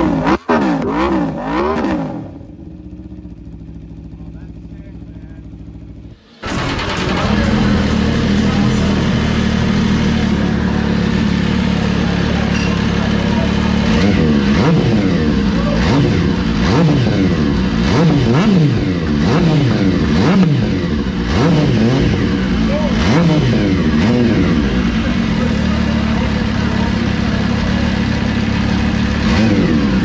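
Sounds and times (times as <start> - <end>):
motorcycle engine idling: 0.0 - 30.0
motorcycle throttle blips: 0.0 - 30.0.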